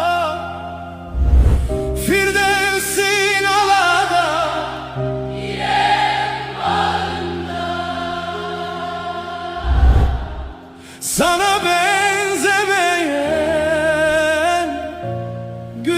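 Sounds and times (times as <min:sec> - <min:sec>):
person singing with vibrato: 0:00.0 - 0:01.2, 0:01.9 - 0:05.2, 0:07.5 - 0:15.9.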